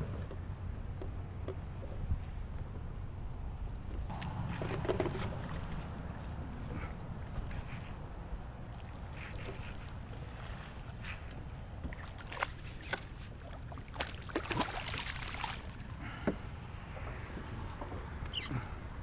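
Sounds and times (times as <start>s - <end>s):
wind and water rumble: 0.0s - 19.0s.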